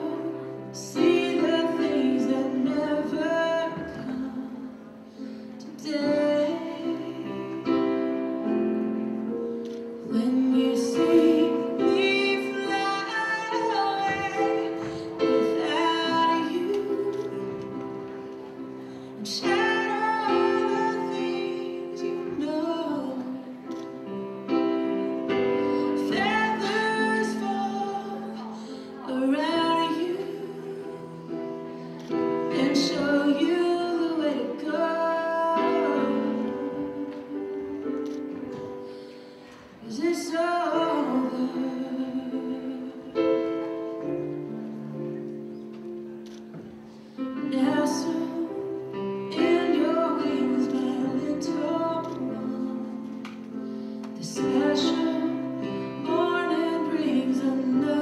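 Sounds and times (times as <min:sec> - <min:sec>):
woman singing: 0:00.0 - 0:08.9, 0:09.7 - 0:44.6, 0:47.2 - 0:58.0.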